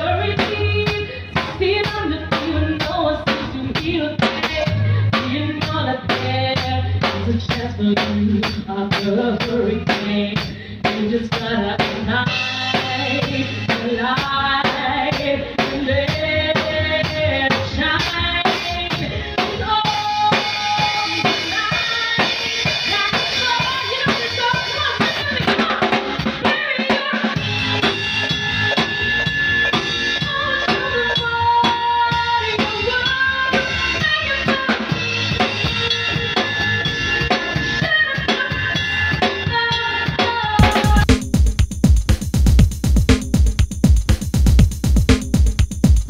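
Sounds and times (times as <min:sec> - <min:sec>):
drum kit beat: 0:00.0 - 0:46.0
live band playing: 0:00.0 - 0:46.0.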